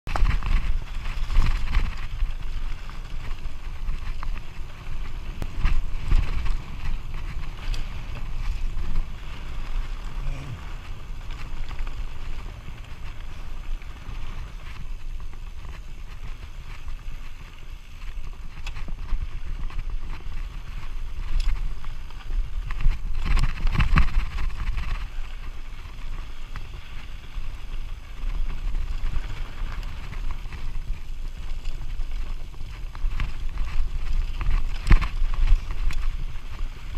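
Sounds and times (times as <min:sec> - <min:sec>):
wind rumbling on microphone: 0:00.0 - 0:36.9
bike rattling: 0:00.1 - 0:36.9
heavy bike jolts: 0:00.1 - 0:36.9.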